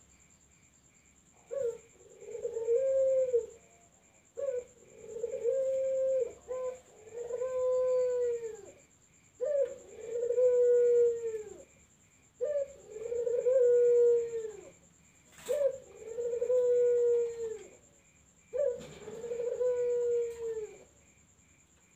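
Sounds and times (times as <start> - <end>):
dove cooing: 1.4 - 8.8, 9.4 - 11.8, 12.4 - 17.9, 18.5 - 21.0.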